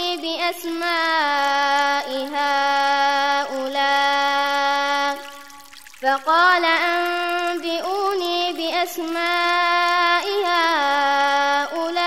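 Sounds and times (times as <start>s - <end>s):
person chanting recitation: 0.0s - 5.4s, 6.0s - 12.0s.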